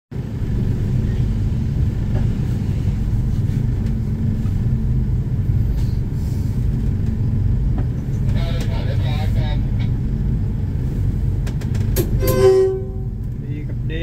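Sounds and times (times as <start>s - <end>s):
diesel train engine idling: 0.1s - 14.0s.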